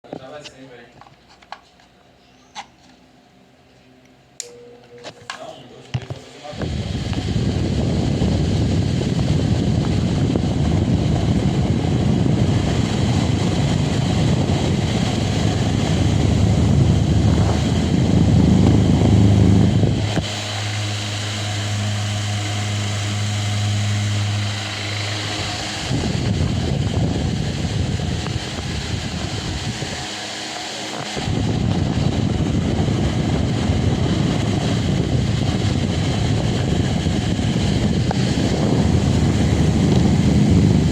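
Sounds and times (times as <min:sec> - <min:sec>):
fan airflow buffeting microphone: 0:05.4 - 0:40.9
low motor hum: 0:06.6 - 0:40.9.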